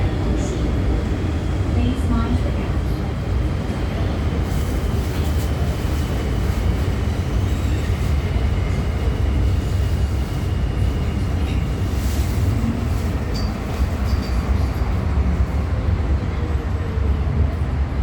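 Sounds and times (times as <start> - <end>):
train rumbling through tunnel: 0.0 - 18.0.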